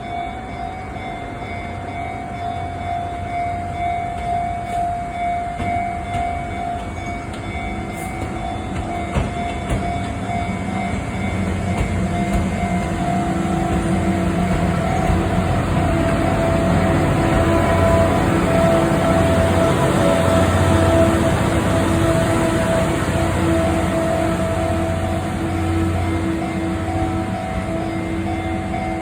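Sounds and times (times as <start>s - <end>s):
train rumbling: 0.0s - 29.0s
level crossing alarm ringing: 0.5s - 29.0s.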